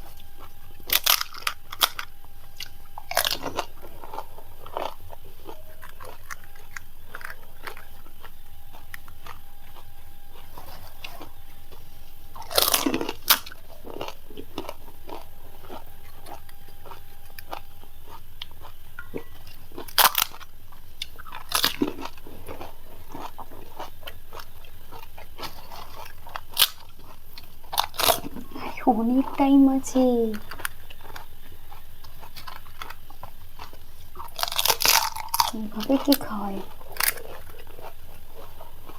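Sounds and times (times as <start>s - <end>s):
chewing: 0.0s - 38.9s
crisp shells crunching between teeth: 0.0s - 38.9s.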